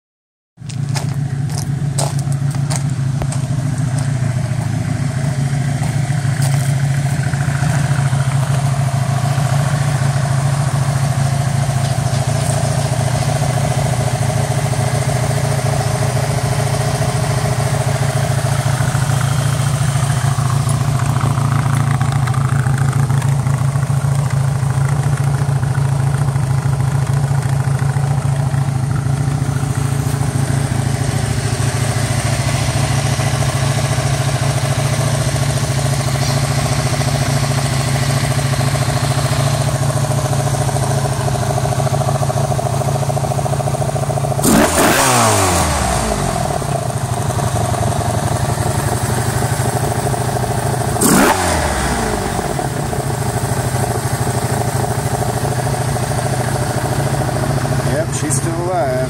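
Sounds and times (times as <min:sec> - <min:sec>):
motorcycle engine idling: 0:00.6 - 0:59.0.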